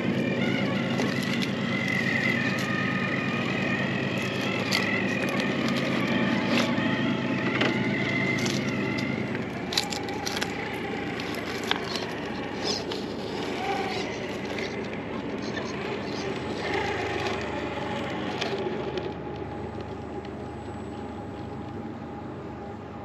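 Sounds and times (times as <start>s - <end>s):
tyres crunching over rock: 0.0s - 19.4s
electric motor whining: 0.0s - 21.1s.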